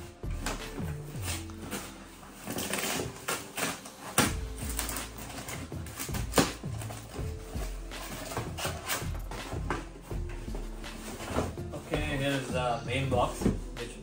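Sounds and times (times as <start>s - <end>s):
cardboard and paper rustling: 0.4s - 14.0s.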